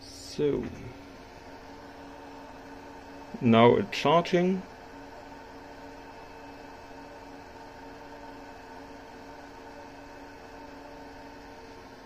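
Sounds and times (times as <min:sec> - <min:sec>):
electronic device humming: 0:00.0 - 0:12.0.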